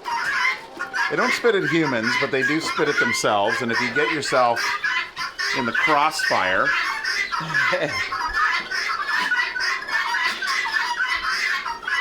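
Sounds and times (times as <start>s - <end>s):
poultry clucking: 0.0s - 12.0s.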